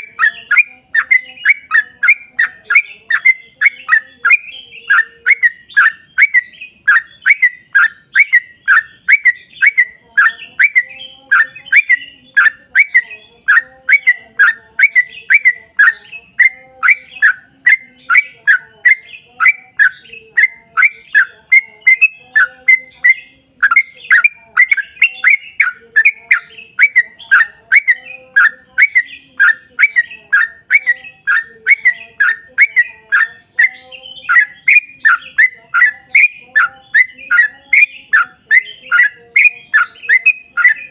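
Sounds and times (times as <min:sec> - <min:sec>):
bird singing chirpy notes: 0:00.0 - 0:40.9.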